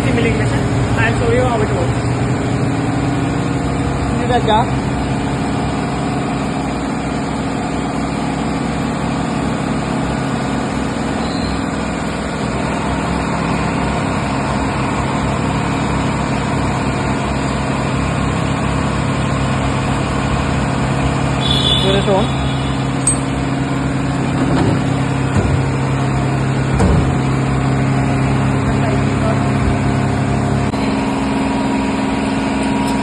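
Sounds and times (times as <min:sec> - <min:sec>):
machine-shop machinery humming: 0:00.0 - 0:33.0.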